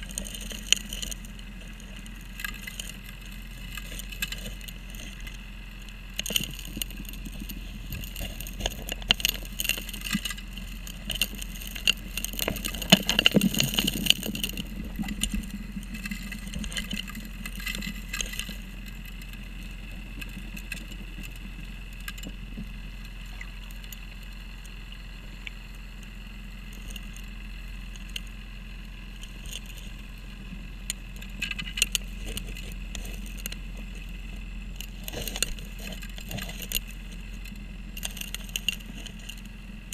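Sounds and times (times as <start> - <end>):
gravel rattling underwater: 0.0 - 39.9
steady low hum: 0.0 - 39.9.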